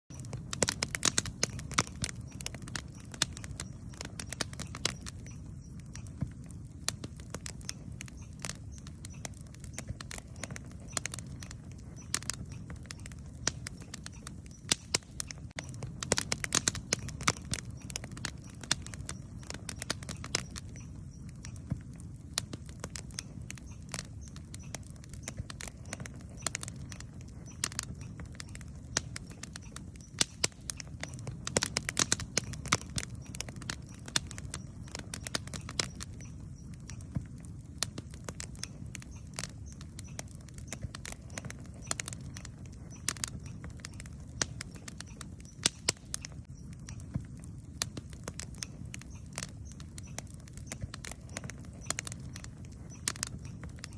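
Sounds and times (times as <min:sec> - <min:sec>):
campfire crackling: 0:00.1 - 0:53.9.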